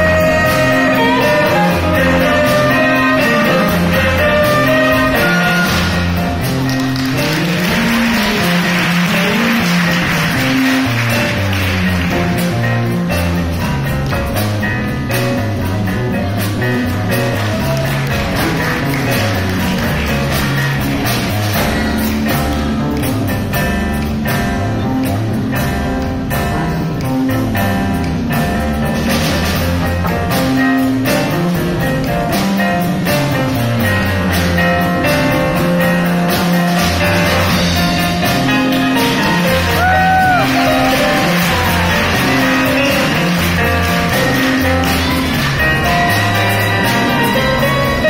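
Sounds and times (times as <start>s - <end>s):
bass guitar: 0.0s - 48.0s
drum kit: 0.0s - 48.0s.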